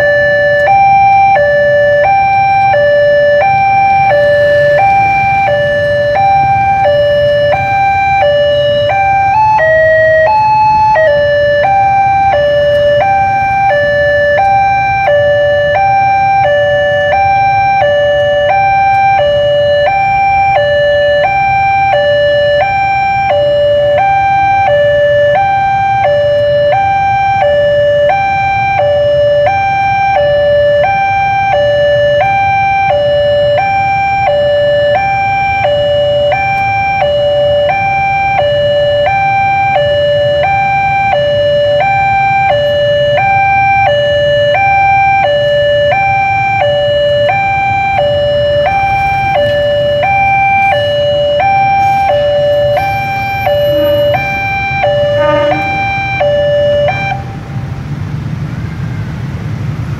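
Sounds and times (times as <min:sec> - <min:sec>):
level crossing two-tone alarm: 0:00.0 - 0:57.4.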